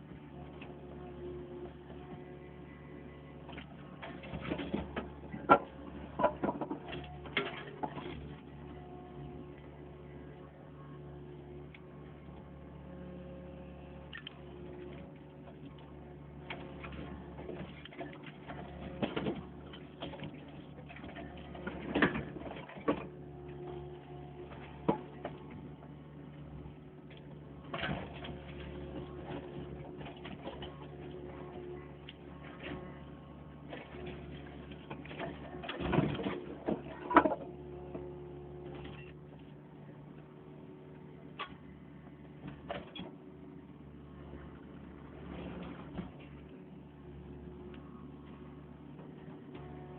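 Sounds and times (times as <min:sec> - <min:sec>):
backhoe engine running: 0:00.0 - 0:49.9.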